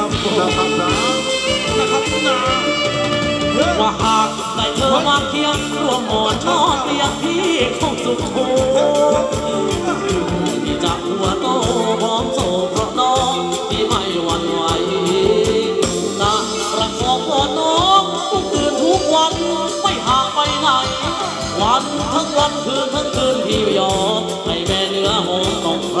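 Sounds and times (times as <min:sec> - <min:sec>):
live band dance music: 0:00.0 - 0:26.0.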